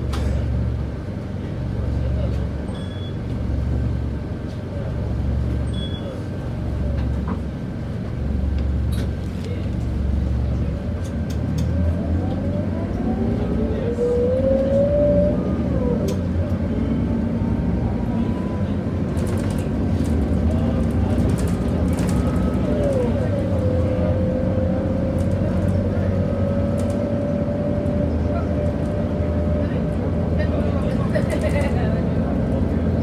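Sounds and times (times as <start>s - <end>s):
bus diesel engine idling: 0.0s - 14.0s, 15.5s - 33.0s
bus engine whine accelerating: 0.0s - 33.0s.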